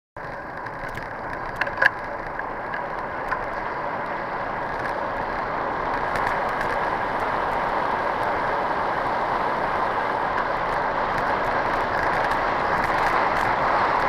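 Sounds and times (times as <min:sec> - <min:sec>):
bicycle rattling clicks: 0:00.2 - 0:14.0
tyre and wind rush: 0:00.2 - 0:14.0.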